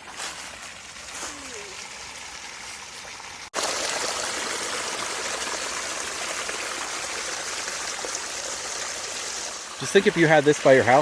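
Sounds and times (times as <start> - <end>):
spring water gushing: 0.0 - 11.0.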